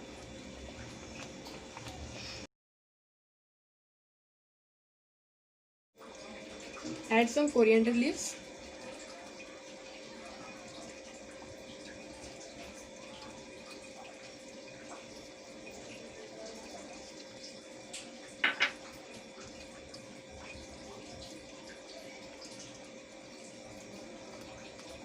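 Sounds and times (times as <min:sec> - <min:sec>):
pot simmering and bubbling: 0:00.0 - 0:02.5, 0:06.0 - 0:25.0.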